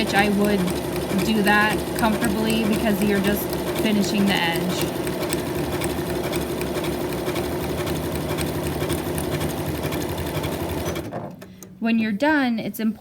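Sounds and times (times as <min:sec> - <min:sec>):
sewing machine running: 0:00.0 - 0:11.5.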